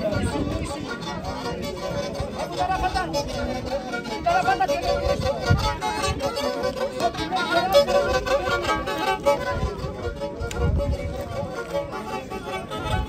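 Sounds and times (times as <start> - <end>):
bowed fiddle dance tune: 0.0 - 13.0.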